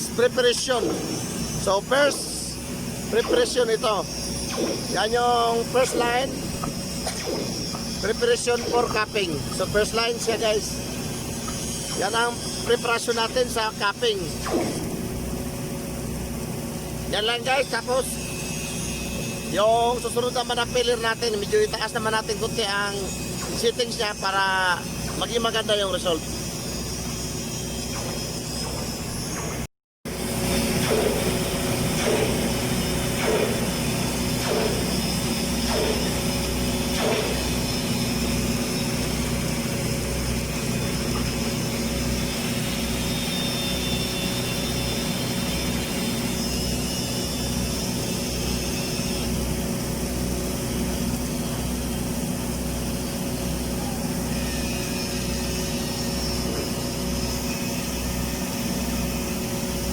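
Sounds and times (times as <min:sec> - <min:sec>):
welding machine humming: 0:00.0 - 0:59.9.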